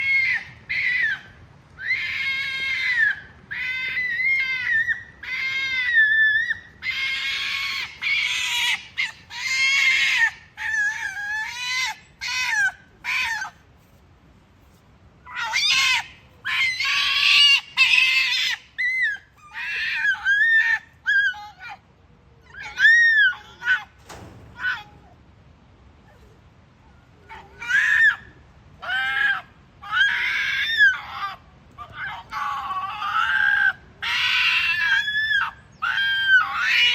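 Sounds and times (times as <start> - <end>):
foxes screaming: 0.0 - 13.6, 15.2 - 21.8, 22.4 - 24.0, 24.6 - 25.1, 27.0 - 36.9.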